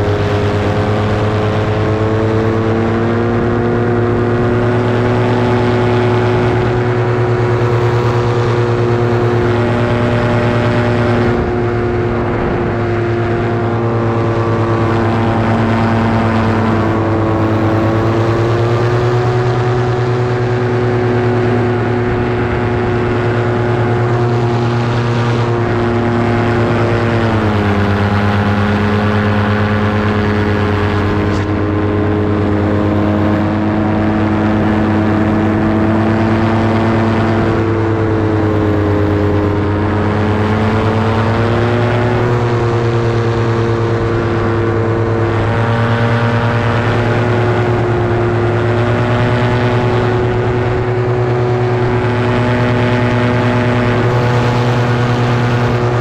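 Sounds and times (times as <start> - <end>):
light aircraft engine and propeller: 0.0 - 56.0.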